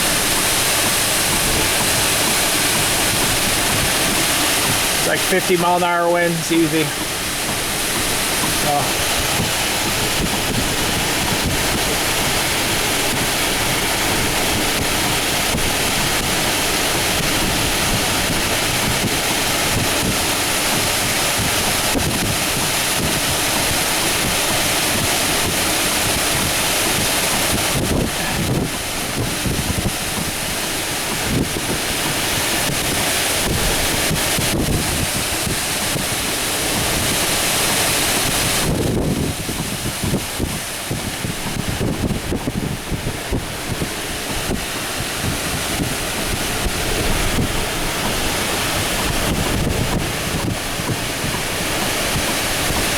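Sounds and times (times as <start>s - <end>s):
strong wind through trees: 0.0s - 52.9s
wind buffeting microphone: 0.0s - 52.9s.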